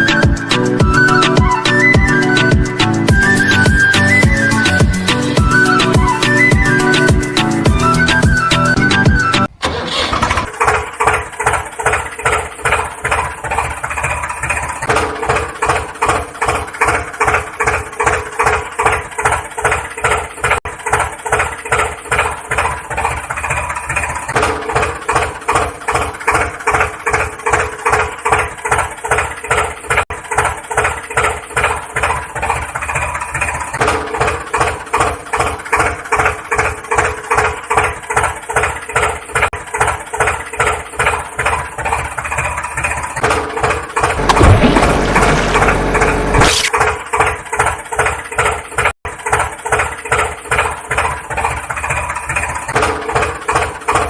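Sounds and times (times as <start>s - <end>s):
tractor engine idling: 0.0s - 43.2s, 44.0s - 54.0s.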